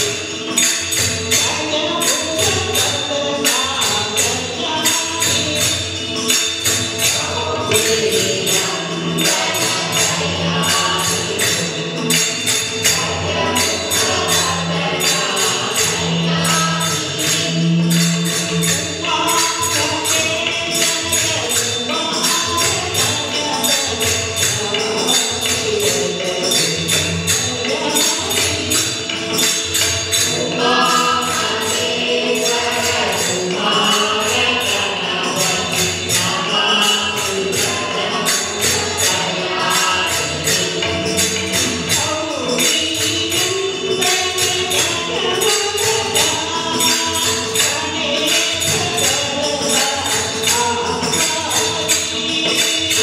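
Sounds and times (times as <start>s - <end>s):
hand cymbals striking: 0.0s - 53.0s
hand drums: 0.0s - 53.0s
group singing devotional song: 7.0s - 28.4s, 30.3s - 53.0s.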